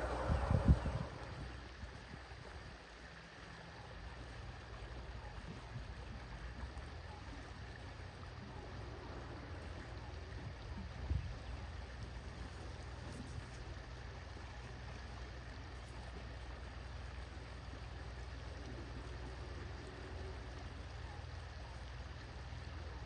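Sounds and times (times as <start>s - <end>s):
steady low rumble: 0.0s - 3.0s, 4.0s - 23.0s
water sloshing and gurgling: 0.0s - 23.0s.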